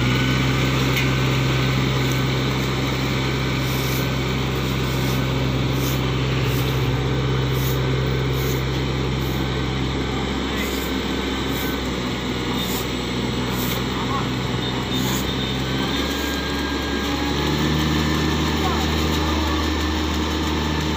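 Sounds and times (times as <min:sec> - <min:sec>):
rice transplanter engine humming: 0:00.0 - 0:20.9.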